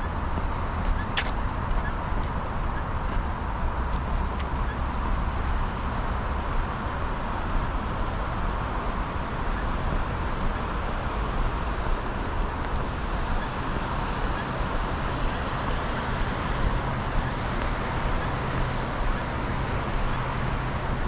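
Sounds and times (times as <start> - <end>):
road traffic hum: 0.0 - 21.0
wind rumbling on microphone: 0.0 - 21.0.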